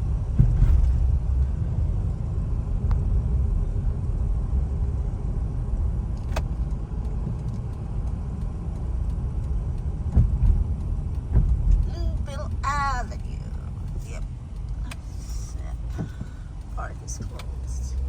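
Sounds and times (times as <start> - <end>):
car interior engine and tyre rumble: 0.0 - 18.0.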